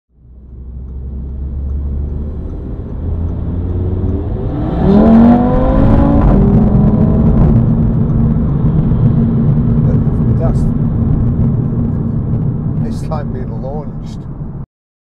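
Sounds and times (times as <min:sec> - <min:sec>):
car engine accelerating: 0:00.2 - 0:14.3.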